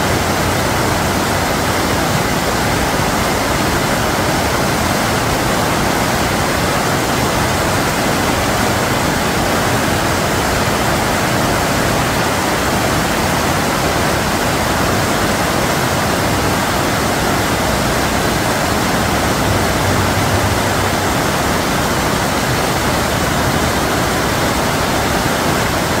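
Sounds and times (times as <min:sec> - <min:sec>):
water rushing over weir: 0:00.0 - 0:26.0.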